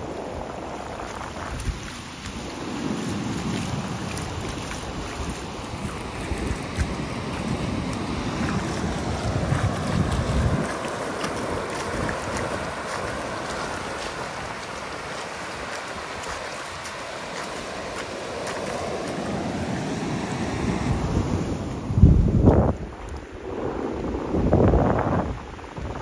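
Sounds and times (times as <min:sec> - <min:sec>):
steady rushing noise: 0:00.0 - 0:26.0
wind buffeting microphone: 0:00.0 - 0:26.0.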